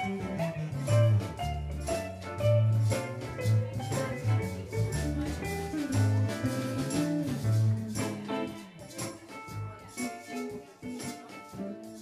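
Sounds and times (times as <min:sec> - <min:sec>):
live reggae band: 0:00.0 - 0:12.0
rhythmic bass line: 0:00.0 - 0:12.0.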